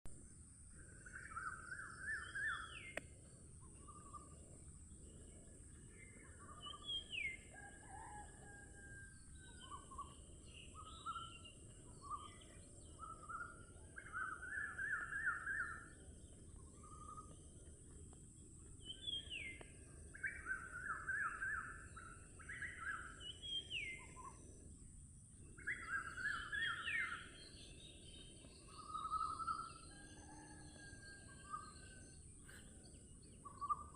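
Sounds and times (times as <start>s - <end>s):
birds singing: 0.7s - 24.8s, 25.4s - 33.9s.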